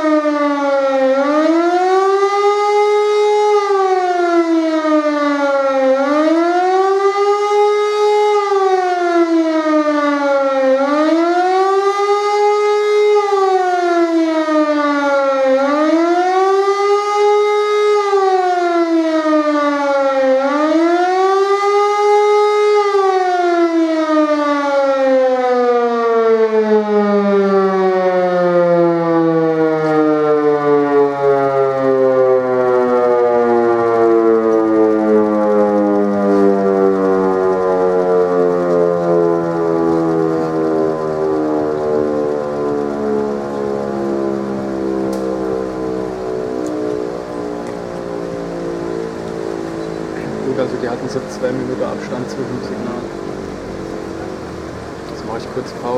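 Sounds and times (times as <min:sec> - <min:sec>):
siren wailing: 0:00.0 - 0:55.9.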